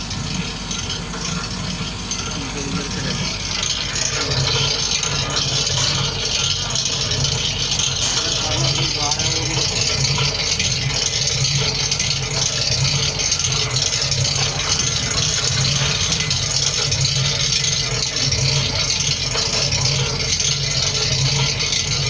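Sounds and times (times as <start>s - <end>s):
mixer humming with hiss: 0.0s - 22.0s.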